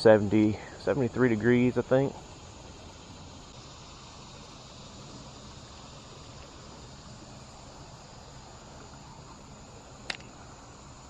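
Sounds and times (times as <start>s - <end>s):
creek background hiss: 0.0s - 11.0s.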